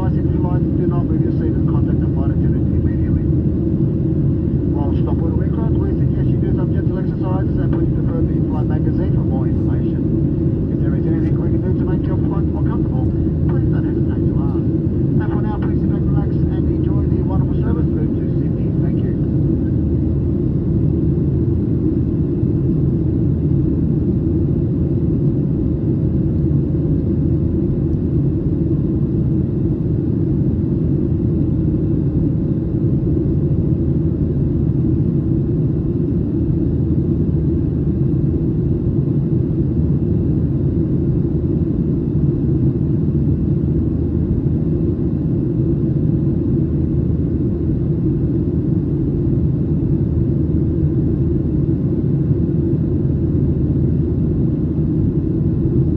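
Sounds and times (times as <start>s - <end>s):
airliner cabin rumble: 0.0s - 55.9s
faint constant hum: 0.0s - 55.9s.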